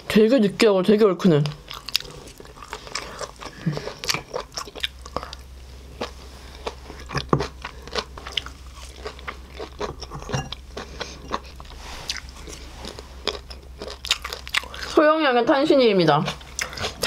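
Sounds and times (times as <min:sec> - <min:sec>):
chewing crunches and mouth clicks: 0:01.4 - 0:15.0, 0:16.3 - 0:17.0.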